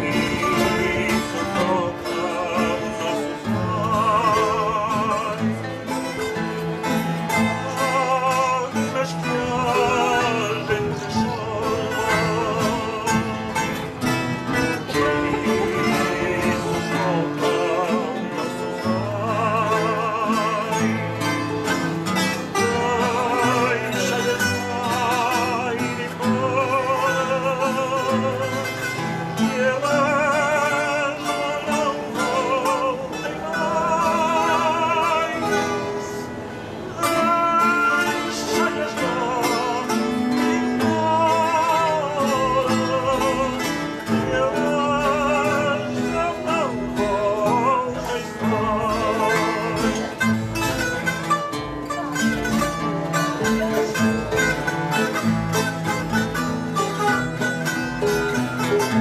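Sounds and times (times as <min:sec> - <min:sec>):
bowed cello: 0:00.0 - 0:59.0
guitars playing: 0:00.0 - 0:59.0
person singing with vibrato: 0:00.0 - 0:59.0.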